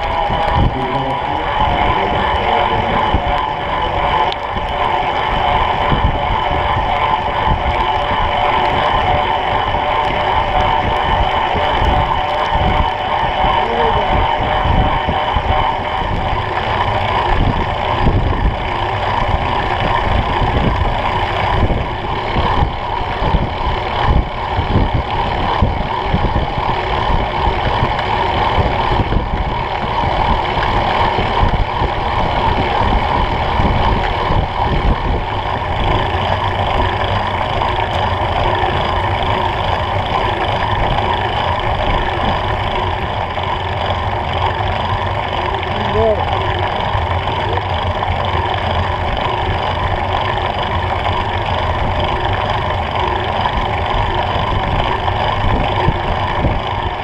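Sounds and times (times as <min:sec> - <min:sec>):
bike tyres rolling hum: 0:00.0 - 0:57.0
wind buffeting microphone: 0:00.0 - 0:57.0.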